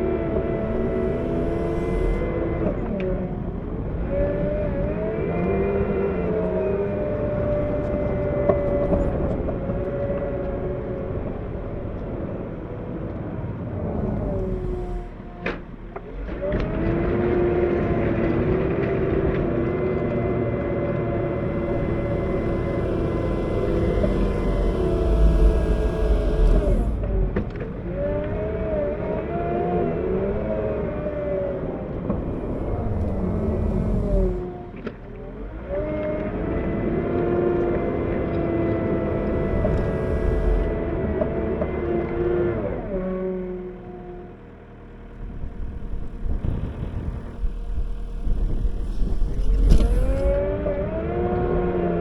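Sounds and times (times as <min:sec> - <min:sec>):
wheel loader diesel engine: 0:00.0 - 0:52.0.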